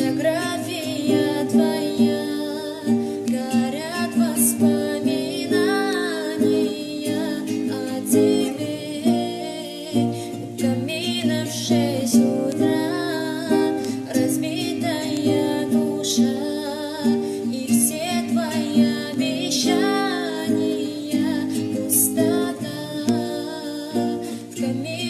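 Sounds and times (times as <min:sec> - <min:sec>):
acoustic guitar: 0:00.0 - 0:25.0
person singing: 0:00.0 - 0:25.0.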